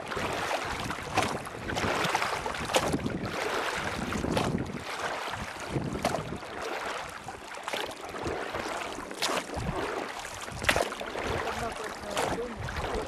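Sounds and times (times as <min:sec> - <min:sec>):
wind on the microphone: 0:00.0 - 0:07.4, 0:08.1 - 0:13.0
water lapping around a boat: 0:00.0 - 0:13.0
sharp splash or knock: 0:00.2 - 0:07.0, 0:07.7 - 0:13.0.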